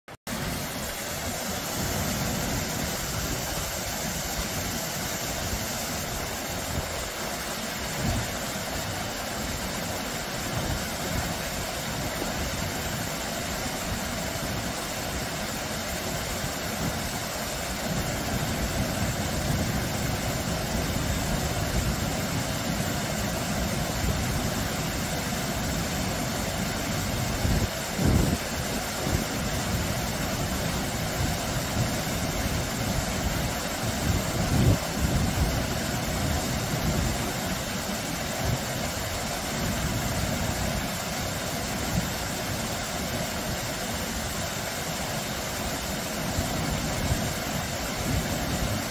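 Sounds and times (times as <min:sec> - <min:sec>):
waterfall splashing into pool: 0:00.3 - 0:48.9.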